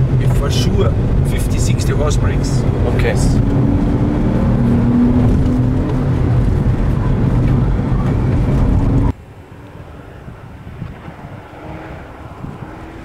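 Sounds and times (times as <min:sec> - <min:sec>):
car engine running loud: 0:00.0 - 0:13.0
road and wind noise: 0:00.0 - 0:13.0.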